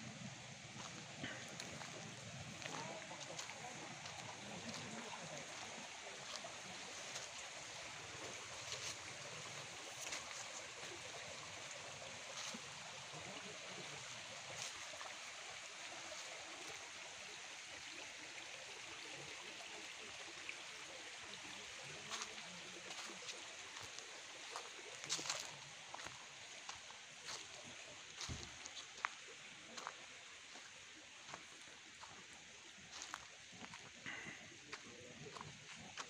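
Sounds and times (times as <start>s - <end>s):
stream rushing and babbling: 0.0s - 36.0s.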